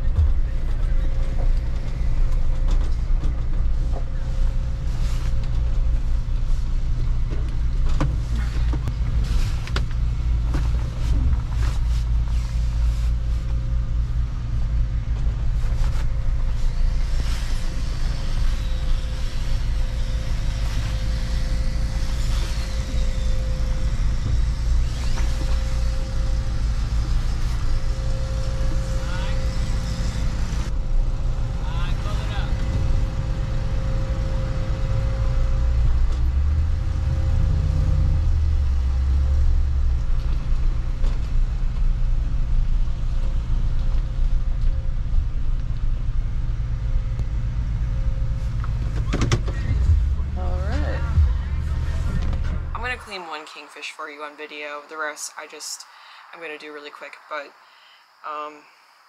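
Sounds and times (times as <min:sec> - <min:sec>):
truck engine and tyres rumbling: 0:00.0 - 0:57.5.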